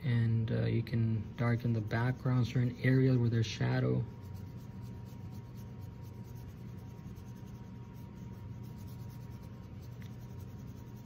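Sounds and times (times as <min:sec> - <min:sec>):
steady low hum: 0:00.0 - 0:11.0
brush rubbing on canvas: 0:01.4 - 0:11.0.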